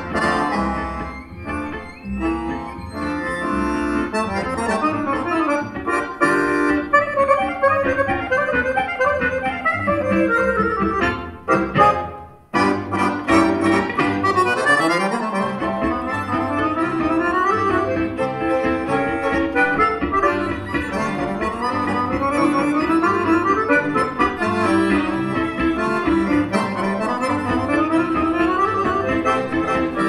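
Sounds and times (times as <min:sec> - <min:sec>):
button accordion: 0:00.0 - 0:30.0
chamber ensemble playing a waltz: 0:00.0 - 0:30.0.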